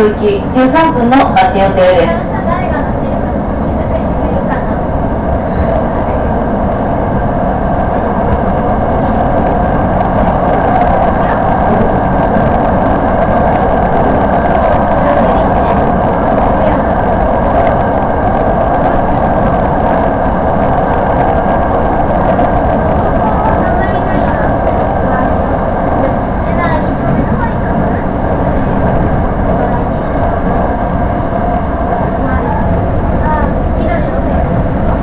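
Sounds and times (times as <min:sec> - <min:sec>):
electric train running on rails: 0:00.0 - 0:35.0.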